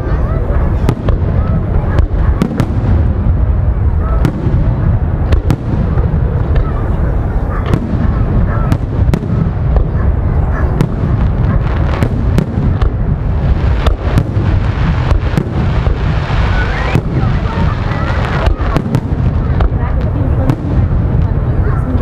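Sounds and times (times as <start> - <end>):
firework booms: 0.0 - 22.0
firework cracks and crackles: 0.0 - 22.0.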